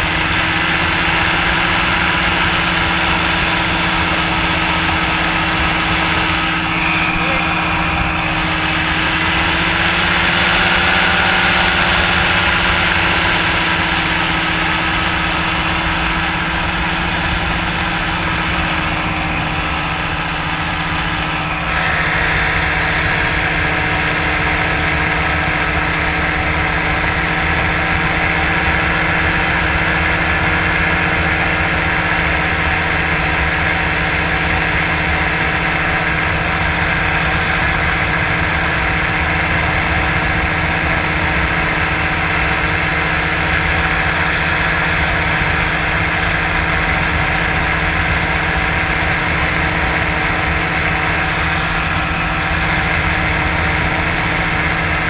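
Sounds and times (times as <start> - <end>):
paraglider engine running: 0.0 - 55.0.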